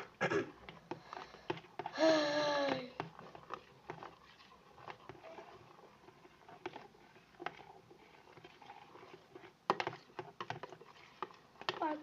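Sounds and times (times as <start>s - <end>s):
spoon stirring watery mixture: 0.0s - 12.0s.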